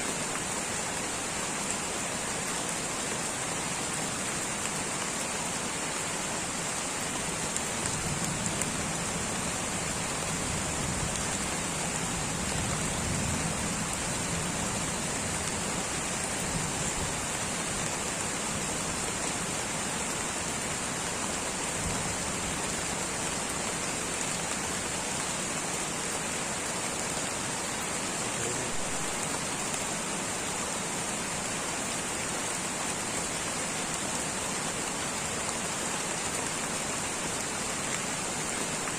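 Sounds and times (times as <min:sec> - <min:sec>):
light rain on foliage: 0:00.0 - 0:38.9.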